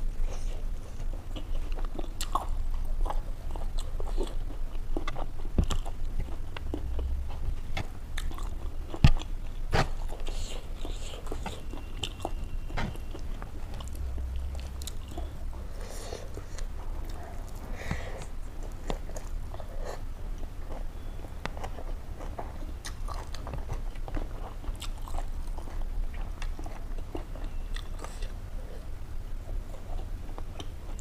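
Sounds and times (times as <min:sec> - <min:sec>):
person chewing and crunching food: 0:00.0 - 0:31.0.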